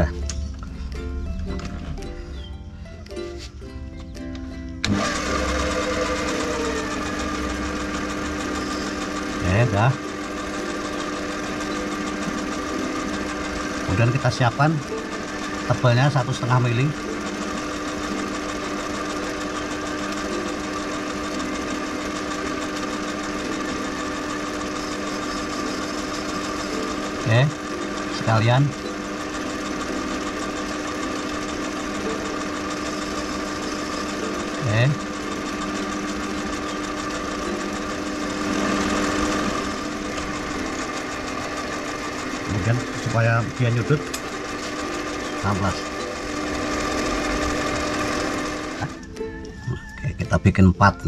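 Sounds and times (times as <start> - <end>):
metal lathe humming: 0.0 - 51.0.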